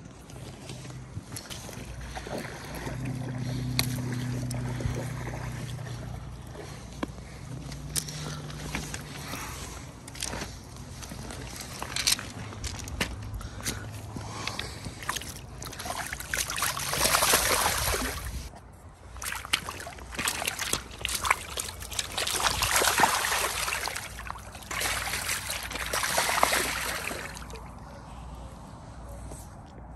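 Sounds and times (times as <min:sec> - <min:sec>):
river water sloshing and splashing: 0:00.0 - 0:28.3.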